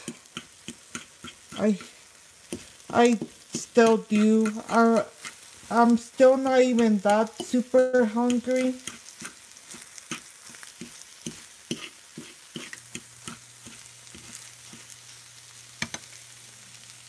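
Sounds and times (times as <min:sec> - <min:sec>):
spatula tapping pan: 0:00.0 - 0:15.0, 0:15.8 - 0:16.1
spatula scraping pan: 0:00.0 - 0:15.2
food sizzling in frying pan: 0:00.0 - 0:17.0.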